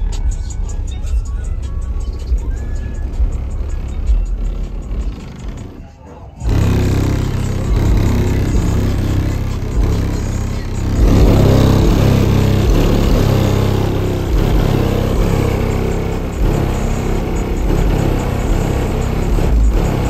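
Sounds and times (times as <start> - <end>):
bass-heavy music from subwoofers: 0.0 - 20.0.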